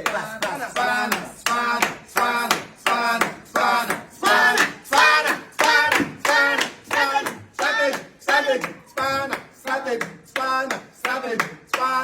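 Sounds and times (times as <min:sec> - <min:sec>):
group chanting rhythmically: 0:00.0 - 0:12.0
hand claps: 0:00.0 - 0:12.0.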